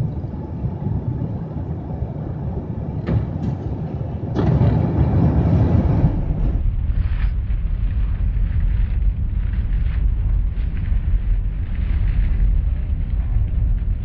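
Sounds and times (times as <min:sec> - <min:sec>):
jet engine rumble in cabin: 0:00.0 - 0:14.0
rush of engine and air noise: 0:00.0 - 0:14.0.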